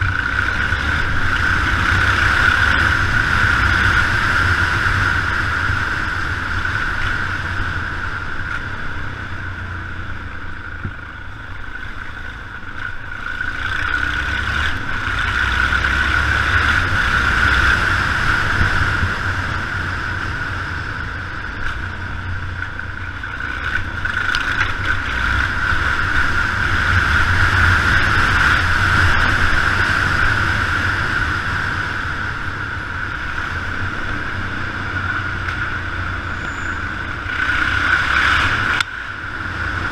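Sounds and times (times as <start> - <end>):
motorcycle engine running: 0.0 - 39.9
tyres on wet road: 0.0 - 39.9.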